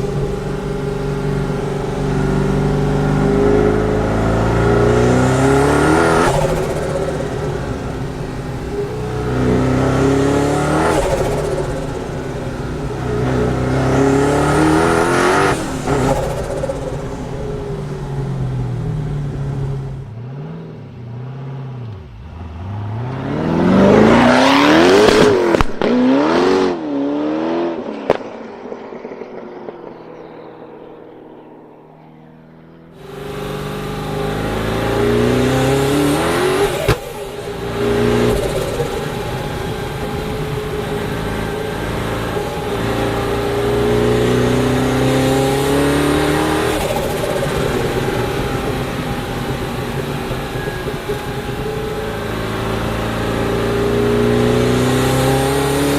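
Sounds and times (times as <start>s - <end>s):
car engine accelerating and revving: 0.0s - 55.9s.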